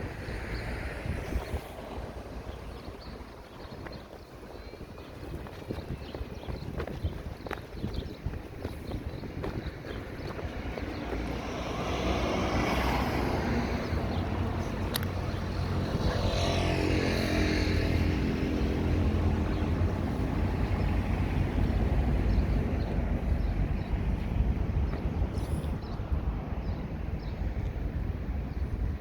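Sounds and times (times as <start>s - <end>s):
vehicles passing close by: 0.0s - 29.0s.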